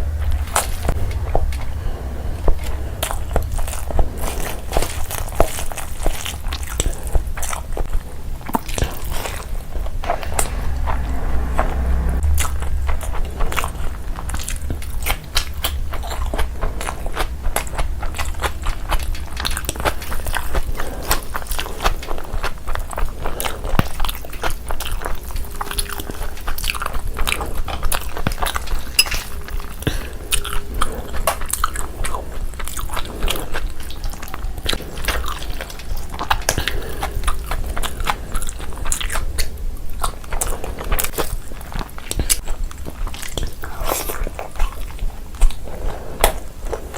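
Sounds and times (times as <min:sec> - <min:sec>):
person chewing and biting food: 0:00.0 - 0:46.9
steady low hum: 0:00.0 - 0:46.9.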